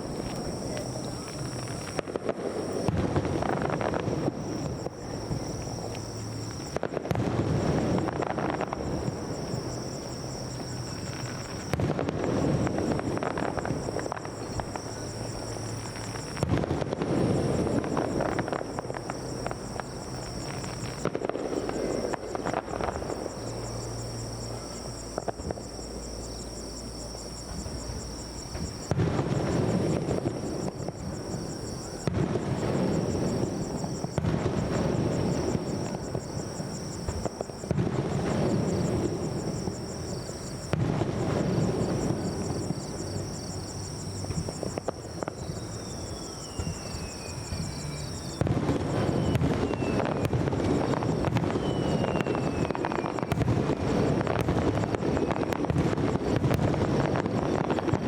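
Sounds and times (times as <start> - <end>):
fireworks bursting and crackling: 0.0 - 58.0
high insect trill: 0.0 - 58.0.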